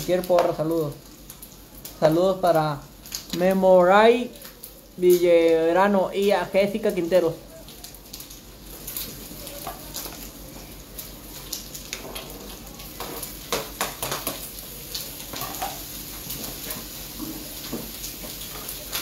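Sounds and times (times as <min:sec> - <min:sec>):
liver and onions sizzling in pan: 0:00.0 - 0:19.0.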